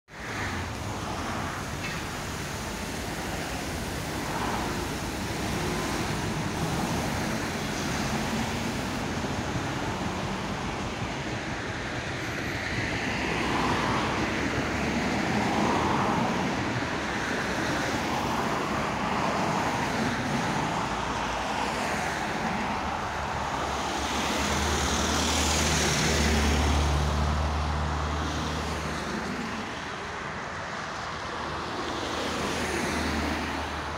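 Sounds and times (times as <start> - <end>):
city road traffic: 0.0 - 33.9.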